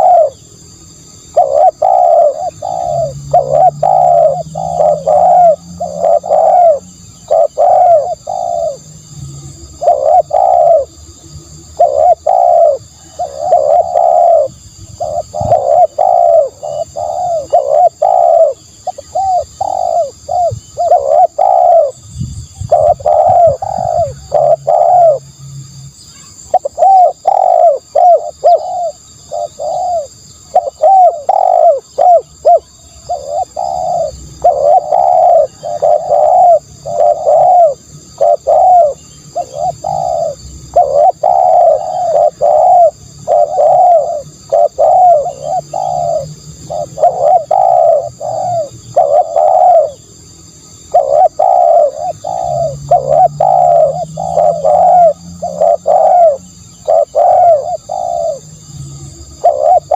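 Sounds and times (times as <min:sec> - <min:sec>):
dove cooing: 0:00.0 - 0:25.3, 0:26.2 - 0:59.9.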